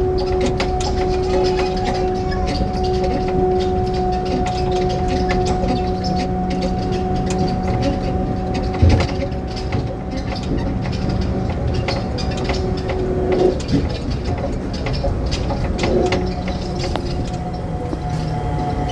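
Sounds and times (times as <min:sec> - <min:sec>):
rail car motor hum: 0:00.0 - 0:18.9
running rumble and rattles: 0:00.0 - 0:18.9.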